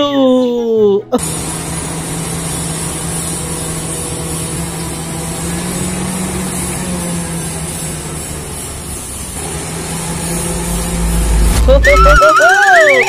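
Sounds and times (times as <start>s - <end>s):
bulldozer diesel engine running: 1.2s - 13.0s.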